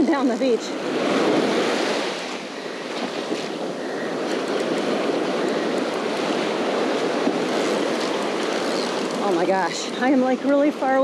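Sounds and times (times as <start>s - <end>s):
ocean surf washing up sand: 0.0s - 11.0s.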